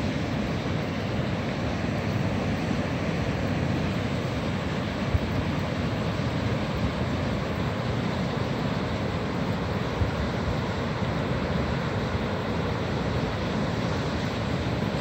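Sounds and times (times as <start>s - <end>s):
river in flood roaring: 0.0s - 15.0s.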